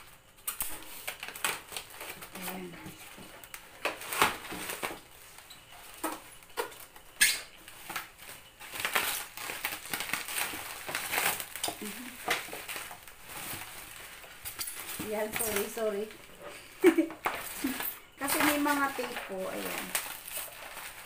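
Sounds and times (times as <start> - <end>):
plastic packaging crinkling: 0.0 - 21.0.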